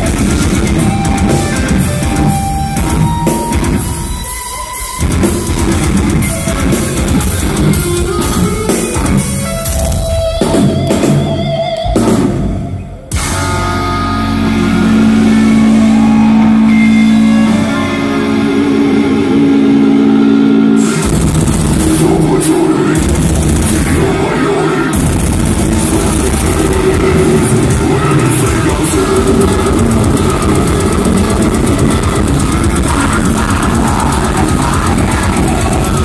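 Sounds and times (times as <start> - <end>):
drums: 0.0 - 36.0
metal band playing live: 0.0 - 36.0.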